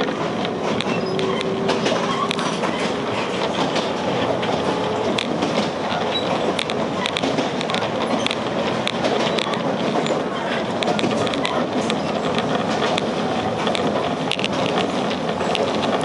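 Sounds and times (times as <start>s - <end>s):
train wheels rumbling on rail: 0.0s - 16.0s
wheels clicking over rail joints: 0.0s - 16.0s.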